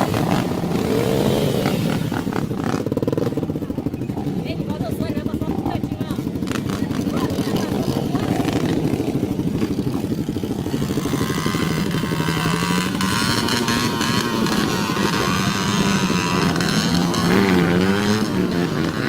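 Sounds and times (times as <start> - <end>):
dirt bike engine revving: 0.0 - 19.0
dirt bike engines running: 0.0 - 19.0.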